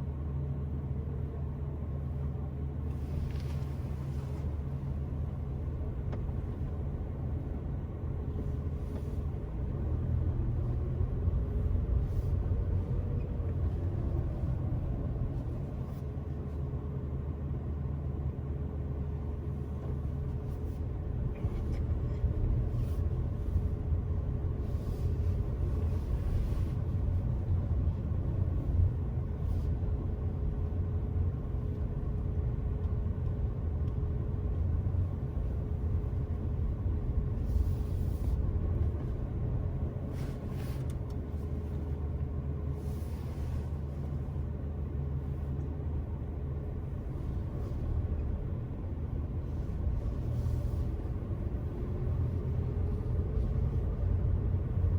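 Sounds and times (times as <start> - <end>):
car engine and tyres rumbling: 0.0 - 54.9
faint steady hum: 0.0 - 54.9.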